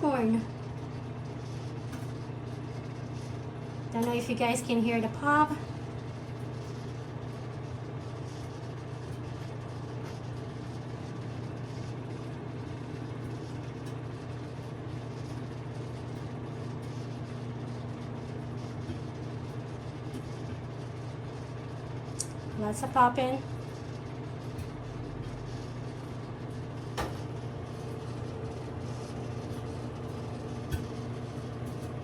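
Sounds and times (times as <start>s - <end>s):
microwave oven humming: 0.0s - 32.0s.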